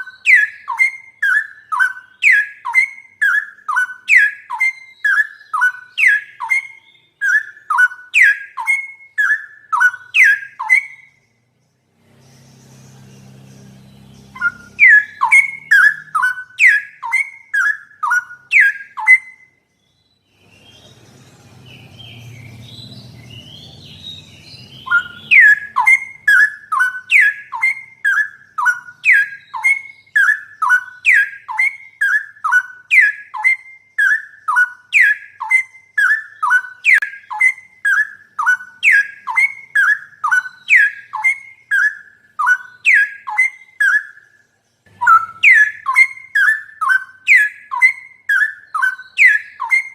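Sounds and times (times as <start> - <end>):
bird singing whistled notes: 0.0 - 49.9.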